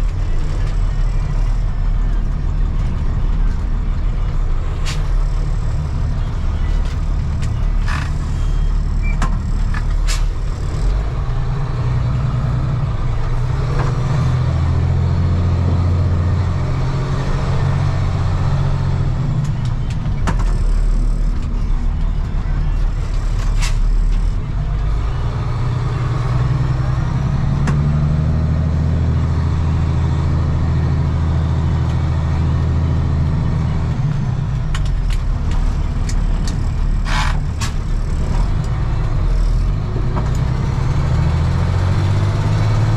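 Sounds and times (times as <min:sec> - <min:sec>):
diesel truck engine running: 0:00.0 - 0:42.9.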